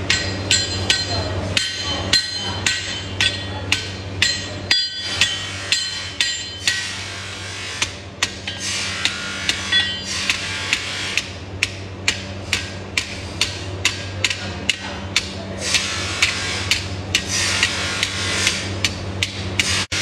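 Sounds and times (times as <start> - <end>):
hammer striking metal on anvil: 0.0 - 7.1, 7.8 - 20.0
steady low hum: 0.0 - 20.0.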